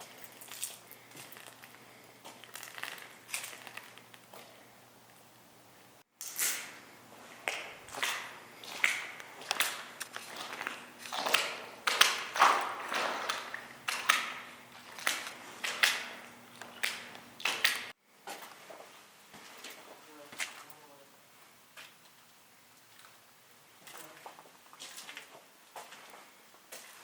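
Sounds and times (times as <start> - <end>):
footsteps crunching over debris: 0.0 - 4.6, 6.3 - 20.7, 23.8 - 27.0.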